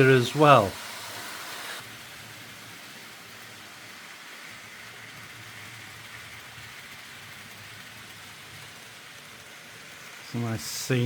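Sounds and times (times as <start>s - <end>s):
model trains whirring on track: 0.0s - 11.0s.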